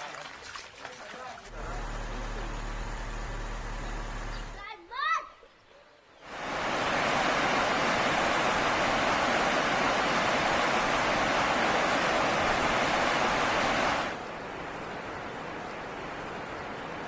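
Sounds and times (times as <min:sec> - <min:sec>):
floodwater rushing in river: 0:00.0 - 0:04.6, 0:06.2 - 0:17.0.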